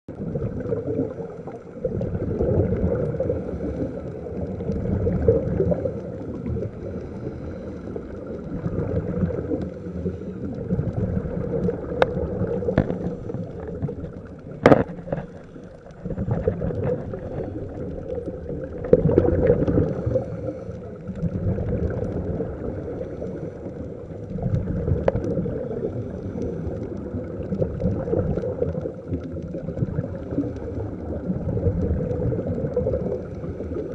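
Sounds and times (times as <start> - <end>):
underwater exhaled bubbles rushing: 0.1 - 33.9.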